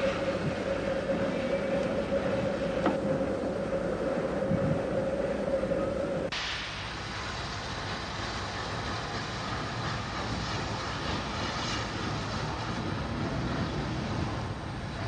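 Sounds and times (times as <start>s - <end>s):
steam locomotive hissing and rumbling: 0.0s - 15.0s.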